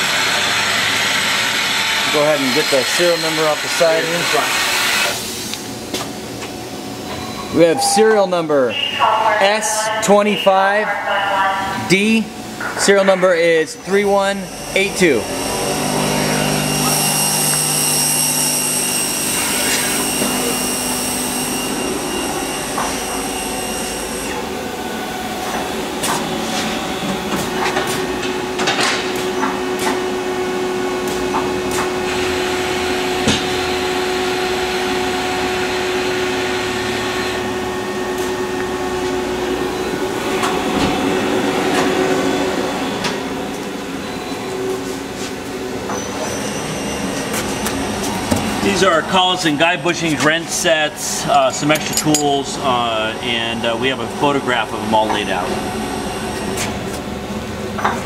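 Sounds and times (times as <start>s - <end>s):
lathe machine whine: 0.0s - 8.7s, 11.8s - 58.0s.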